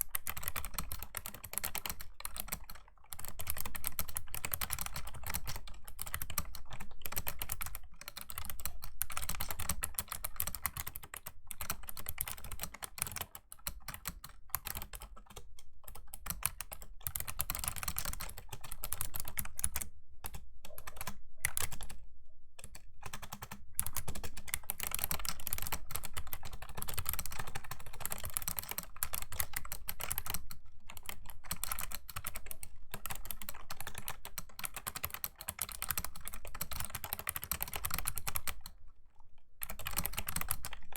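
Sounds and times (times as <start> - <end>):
clicky keyboard key presses: 0.2 - 22.0, 22.6 - 38.8, 39.6 - 40.9.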